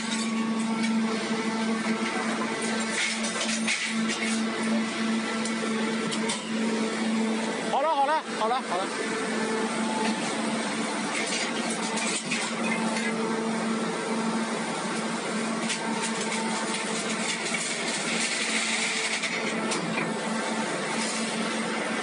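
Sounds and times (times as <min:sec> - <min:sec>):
motor and pump hum: 0:00.0 - 0:22.0.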